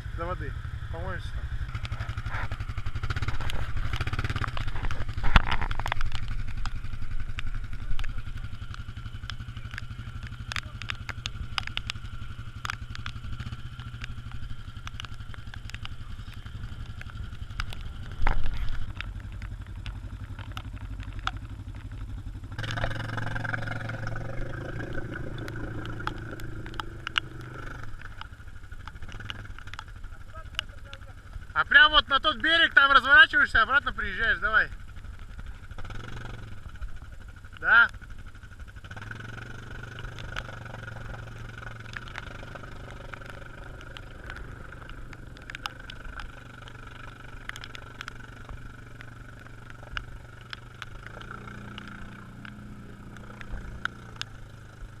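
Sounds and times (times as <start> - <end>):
atv engine running: 0.0 - 55.0
sharp ticks and clatter: 0.1 - 55.0.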